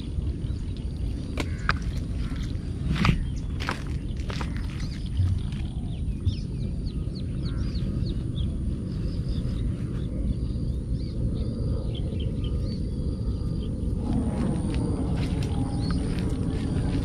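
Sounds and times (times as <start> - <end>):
low rumble: 0.0 - 17.0
small birds chirping: 0.0 - 17.0.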